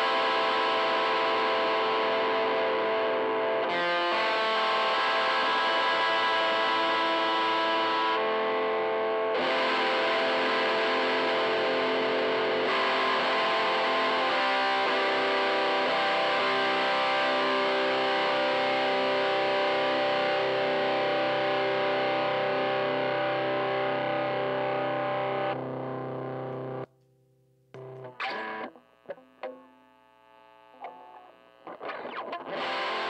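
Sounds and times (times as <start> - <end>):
distorted electric guitar chords: 0.0 - 26.9, 27.8 - 33.0.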